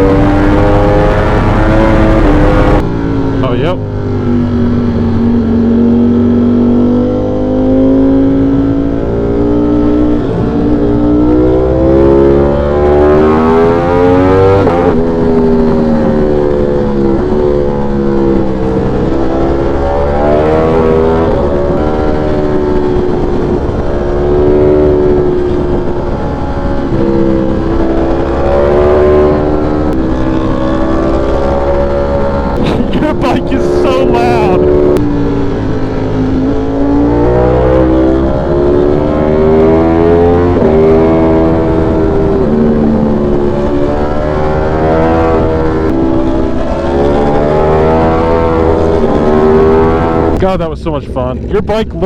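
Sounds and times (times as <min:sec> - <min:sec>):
motorcycle engine accelerating: 0:00.0 - 0:52.0
wind and road noise: 0:00.0 - 0:52.0.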